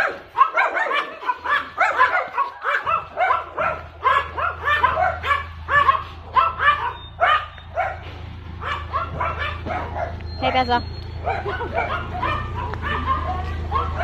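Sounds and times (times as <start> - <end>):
dog barking rapidly: 0.0 - 10.2, 11.2 - 14.0.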